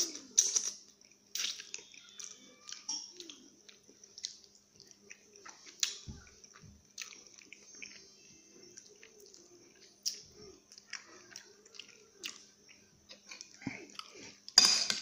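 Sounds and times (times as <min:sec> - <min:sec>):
chewing: 0:00.1 - 0:14.6.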